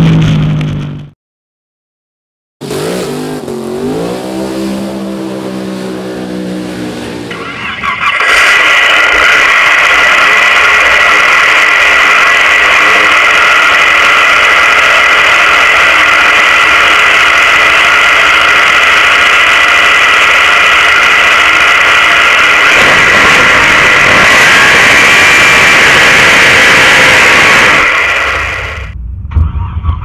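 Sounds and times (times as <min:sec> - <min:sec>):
car engine idling loudly: 0:02.6 - 0:29.0.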